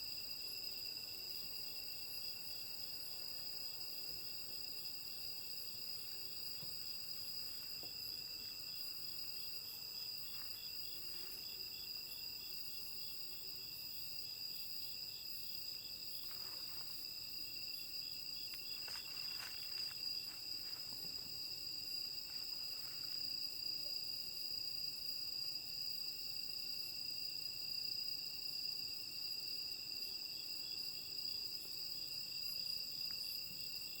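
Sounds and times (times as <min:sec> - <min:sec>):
insect trills: 0:00.0 - 0:28.7.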